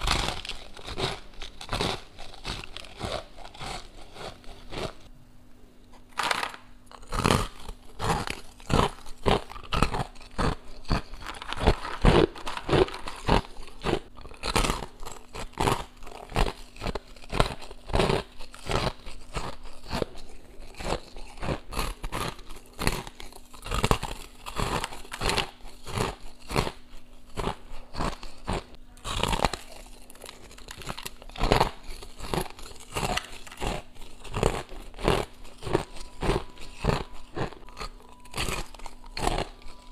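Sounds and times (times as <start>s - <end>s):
crunching frost while chewing: 0.0s - 5.1s, 5.9s - 39.9s.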